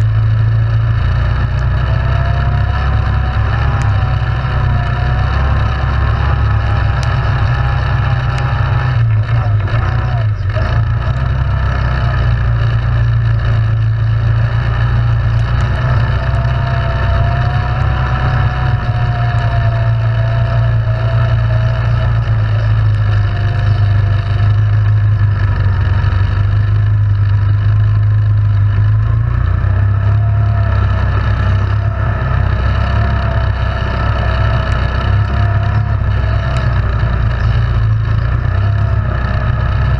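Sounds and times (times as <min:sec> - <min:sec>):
atv engine droning: 0:00.0 - 0:39.9
wavering higher whine: 0:00.0 - 0:39.9.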